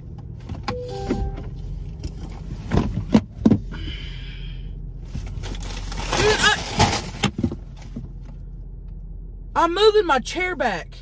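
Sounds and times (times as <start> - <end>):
car engine idling hum: 0.0 - 11.0.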